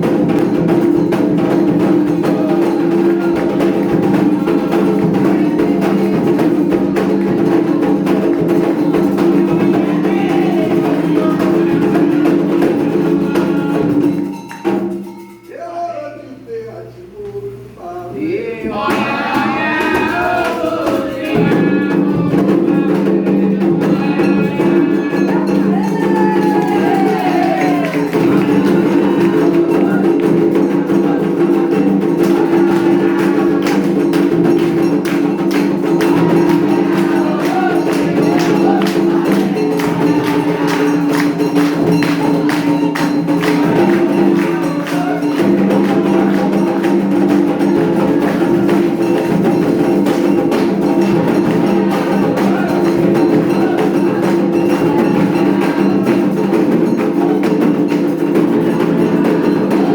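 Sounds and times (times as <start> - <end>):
hand percussion: 0.0 - 16.1, 18.6 - 59.9
voices singing together: 0.0 - 16.9, 17.8 - 59.9.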